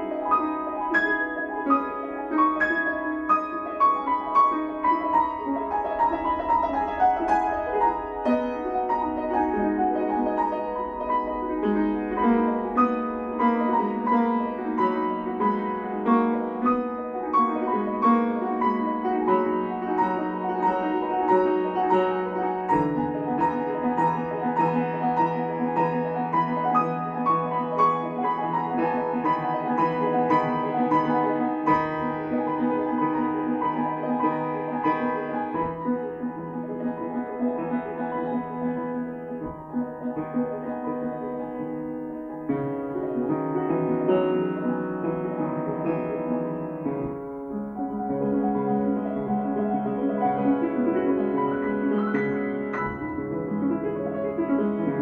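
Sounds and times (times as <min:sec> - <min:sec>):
grand piano playing: 0:00.0 - 0:55.0.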